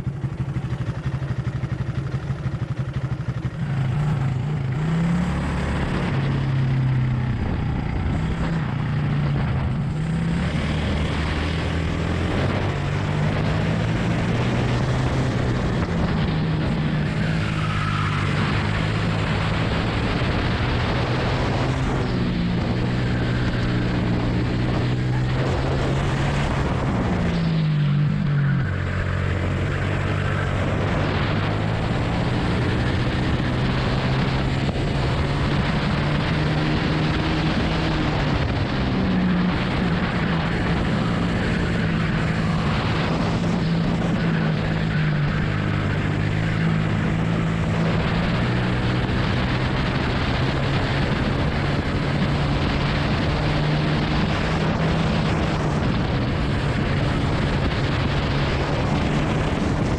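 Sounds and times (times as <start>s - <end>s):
kart engine running hard: 0.0s - 59.9s
wind and road noise: 0.0s - 59.9s.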